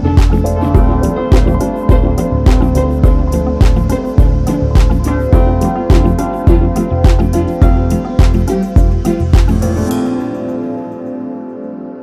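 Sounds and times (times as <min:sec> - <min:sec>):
music with steady thumping beat: 0:00.0 - 0:09.9.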